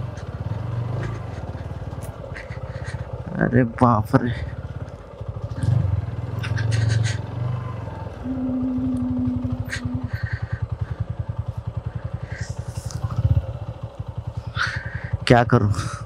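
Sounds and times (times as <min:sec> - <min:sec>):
low hum: 0:00.0 - 0:16.0
motorcycle engine idling: 0:00.0 - 0:16.0.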